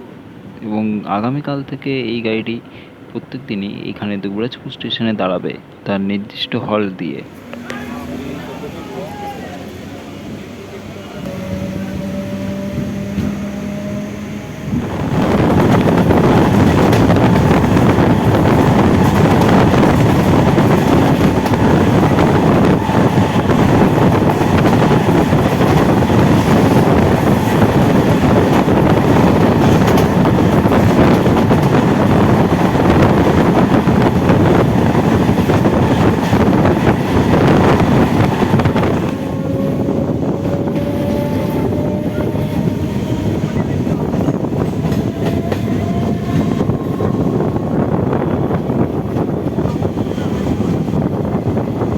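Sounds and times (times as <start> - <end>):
train rail noise: 5.6 - 51.9
wind on microphone: 10.1 - 51.9.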